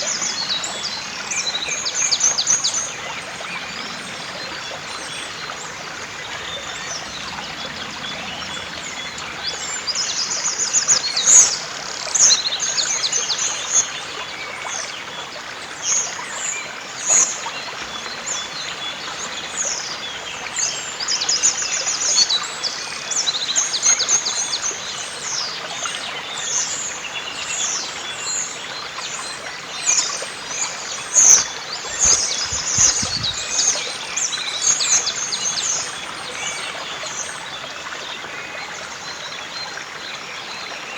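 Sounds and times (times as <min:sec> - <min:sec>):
flowing river water: 0:00.0 - 0:40.9
songbirds singing: 0:00.0 - 0:40.9.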